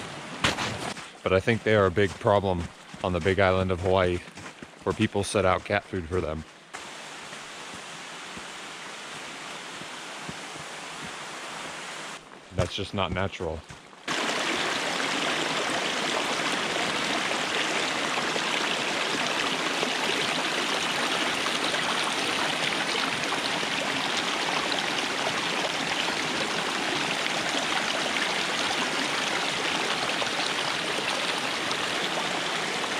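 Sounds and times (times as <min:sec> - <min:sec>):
creek running over rocks: 0:00.0 - 0:32.9.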